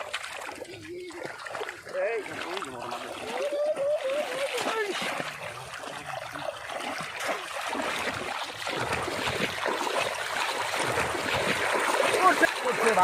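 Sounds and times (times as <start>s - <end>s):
shallow water splashing: 0.0s - 13.0s.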